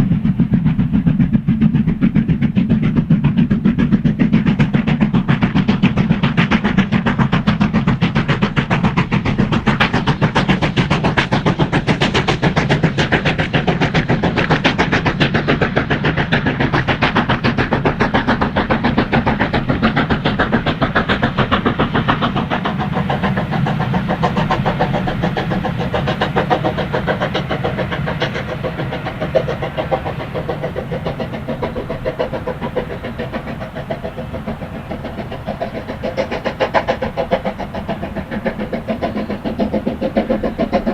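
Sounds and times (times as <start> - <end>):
steam locomotive exhaust beats: 0.0 - 40.9.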